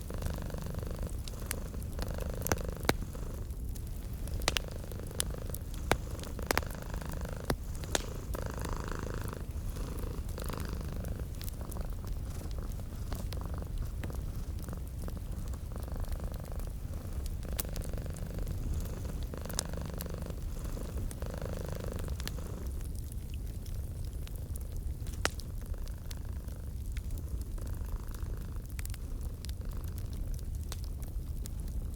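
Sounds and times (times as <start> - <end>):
cat purring: 0.0 - 30.8
wood fire crackling: 0.0 - 31.9.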